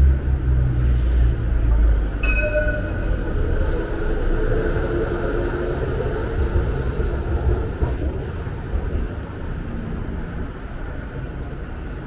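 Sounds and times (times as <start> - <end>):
city traffic passing: 0.0 - 12.0.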